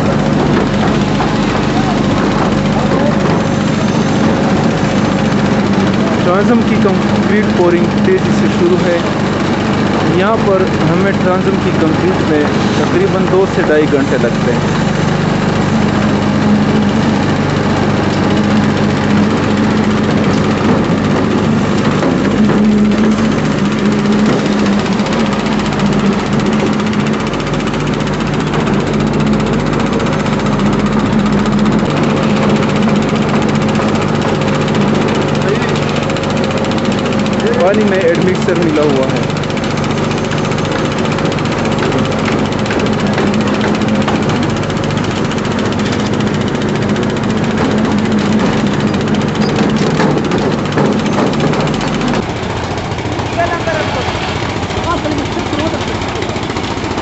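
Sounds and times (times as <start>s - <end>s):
construction machinery engine humming: 0.0s - 57.0s.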